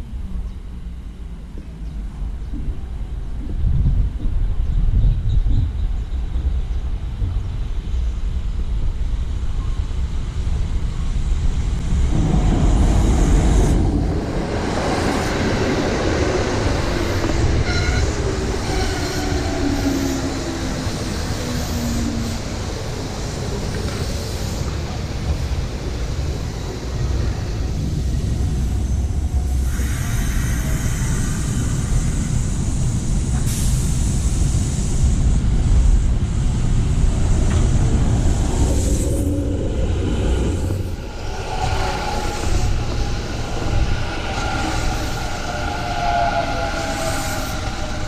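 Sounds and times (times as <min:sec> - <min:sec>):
high train whine: 0:00.0 - 0:48.0
train wheels rumbling on rails: 0:00.0 - 0:48.0.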